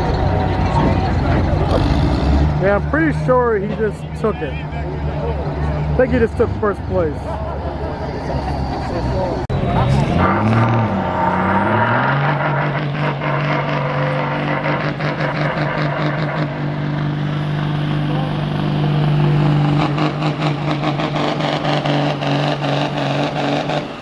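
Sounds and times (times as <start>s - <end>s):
diesel truck engine working hard: 0.0s - 24.0s.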